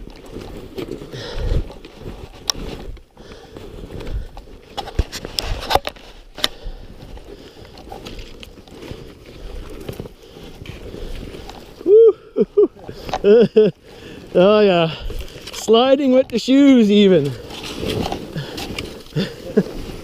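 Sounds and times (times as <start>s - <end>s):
snowshoes crunching in snow: 0.2s - 12.0s, 12.6s - 20.0s.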